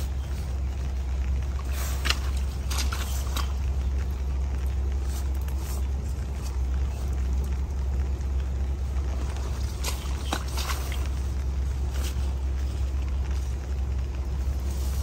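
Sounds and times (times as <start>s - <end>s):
hand hoe scraping wet soil: 0.0s - 7.4s, 8.9s - 15.0s
steady low rumble: 0.0s - 15.0s.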